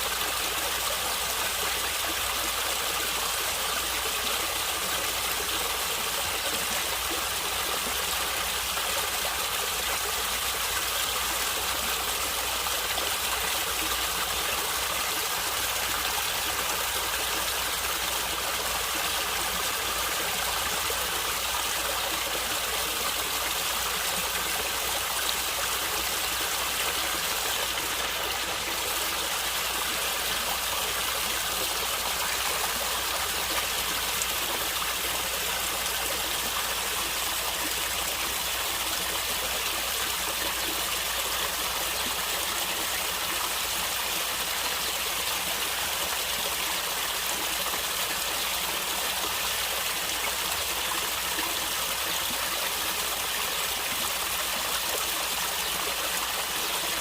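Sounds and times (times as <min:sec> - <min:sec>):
stream of water gurgling: 0:00.0 - 0:57.0.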